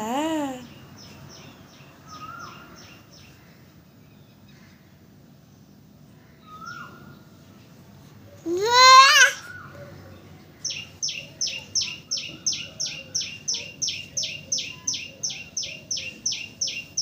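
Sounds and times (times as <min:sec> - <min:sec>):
birds calling faintly: 0:00.0 - 0:17.0.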